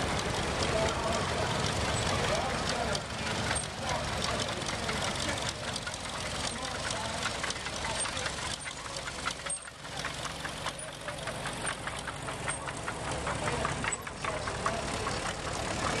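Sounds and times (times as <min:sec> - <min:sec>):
rapid sharp engine ticking: 0:00.0 - 0:16.0
tractor engines rumbling: 0:00.0 - 0:16.0.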